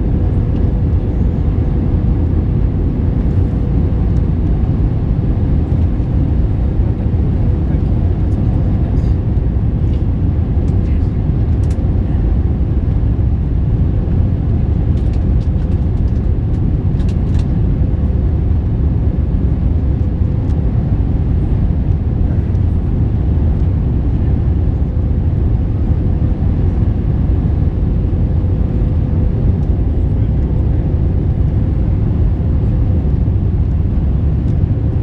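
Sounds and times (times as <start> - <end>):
airplane engine drone in flight: 0.0 - 35.0.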